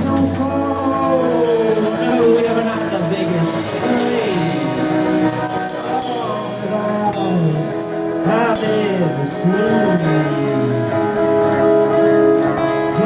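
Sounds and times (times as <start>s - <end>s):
drums with cymbal hits: 0.0s - 7.8s, 9.8s - 13.0s
man singing: 0.0s - 11.9s
guitar: 0.0s - 13.0s.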